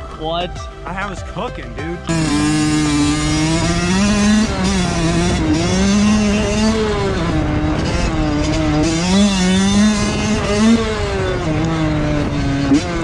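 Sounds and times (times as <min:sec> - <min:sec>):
dirt bike engine revving: 0:02.0 - 0:13.0.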